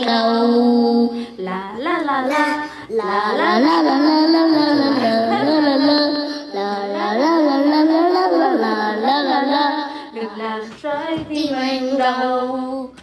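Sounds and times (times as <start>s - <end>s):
child singing into karaoke microphone: 0.0s - 13.0s
woman singing into karaoke microphone: 0.0s - 13.0s.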